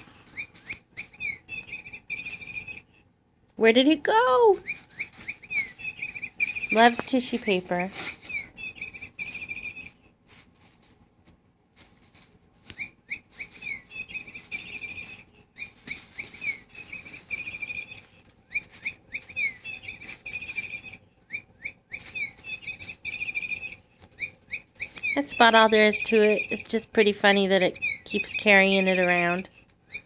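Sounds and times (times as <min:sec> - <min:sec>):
electronic toy bird chirps: 0:00.0 - 0:02.9, 0:04.6 - 0:10.0, 0:12.7 - 0:30.0
faint rustling: 0:00.0 - 0:30.0.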